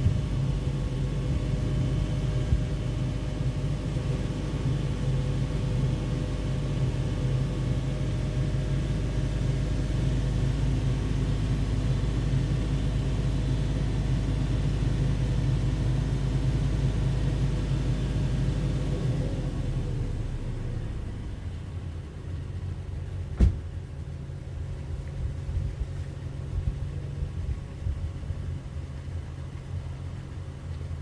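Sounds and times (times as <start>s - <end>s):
truck engine running steadily: 0.0s - 31.0s.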